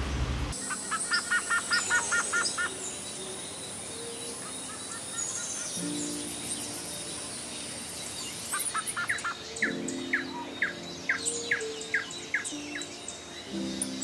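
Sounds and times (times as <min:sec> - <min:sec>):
high bird twittering: 0:00.6 - 0:14.0.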